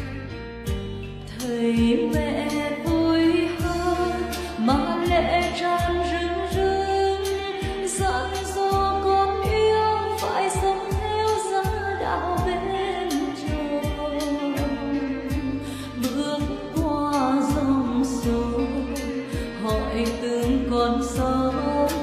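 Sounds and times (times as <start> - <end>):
backing track with bass and drums: 0.0 - 22.0
woman singing: 1.2 - 22.0.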